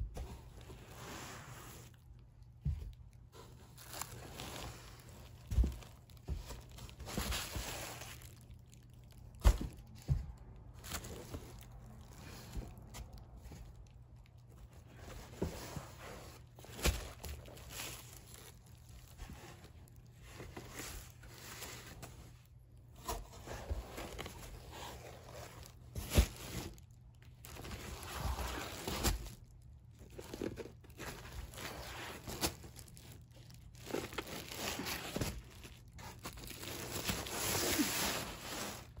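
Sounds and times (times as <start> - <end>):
fabric rustling and bubble wrap crinkling: 0.0 - 39.0.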